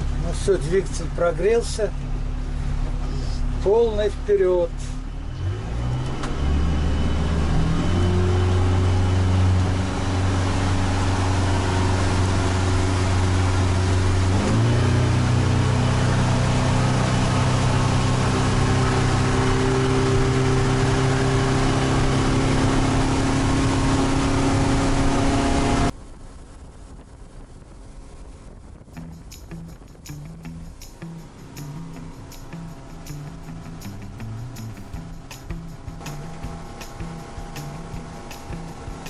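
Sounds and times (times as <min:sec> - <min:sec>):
motorboat engine at full throttle: 0:00.0 - 0:05.8, 0:06.4 - 0:25.9, 0:30.7 - 0:39.0.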